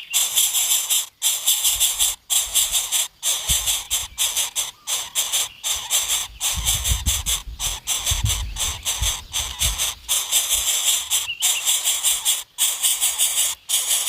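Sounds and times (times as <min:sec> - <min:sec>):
nestlings raspy hissing calls: 0:00.0 - 0:14.0.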